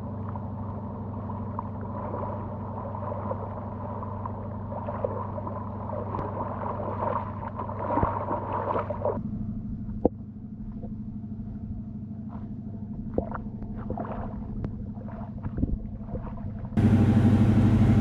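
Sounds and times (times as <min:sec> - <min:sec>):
ship diesel engine drone: 0:00.0 - 0:18.0.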